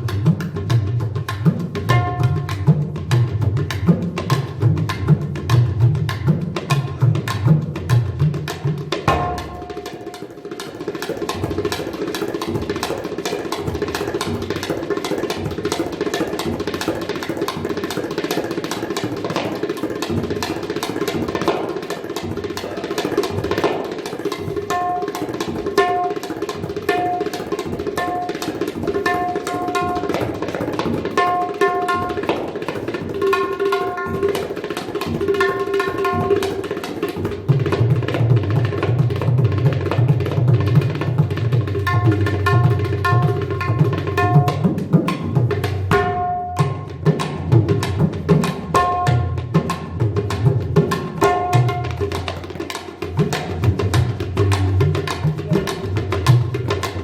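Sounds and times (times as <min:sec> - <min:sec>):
rapid tabla strokes: 0:00.0 - 0:57.0.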